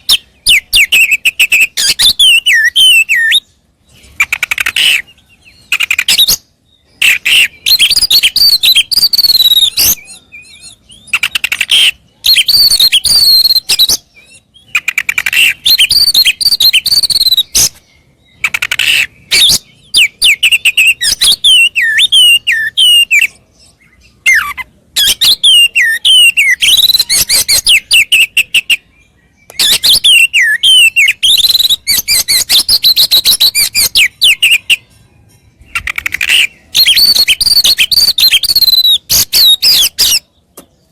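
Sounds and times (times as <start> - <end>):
songbird whistling and chirping: 0.0 - 40.9.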